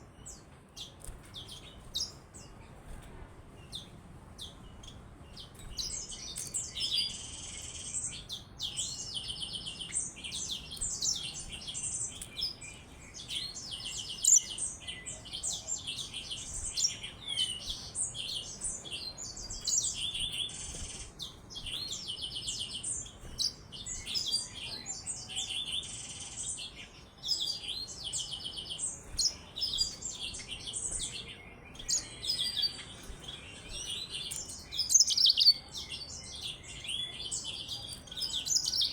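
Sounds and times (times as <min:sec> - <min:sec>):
canary singing warbling song: 0:00.0 - 0:02.8, 0:03.5 - 0:38.9.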